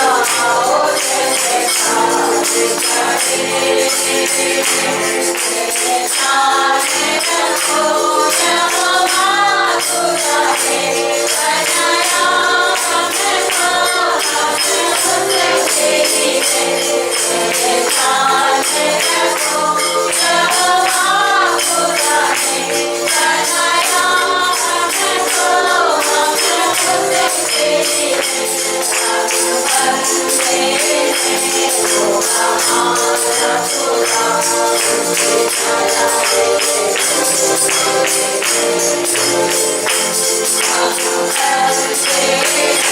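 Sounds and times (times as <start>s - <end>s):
group singing a worship song: 0.0s - 42.9s
tambourine shaking: 0.0s - 42.9s.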